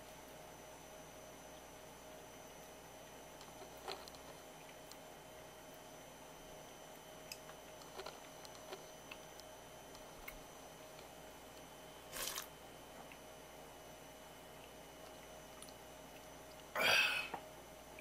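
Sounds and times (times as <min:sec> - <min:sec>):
faint background whine: 0:00.0 - 0:18.0.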